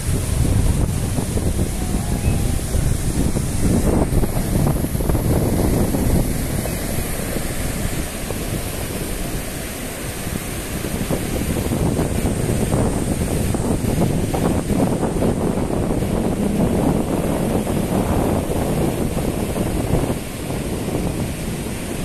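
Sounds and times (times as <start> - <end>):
surf breaking on beach: 0.0 - 22.0
wind rumbling on microphone: 0.0 - 22.0.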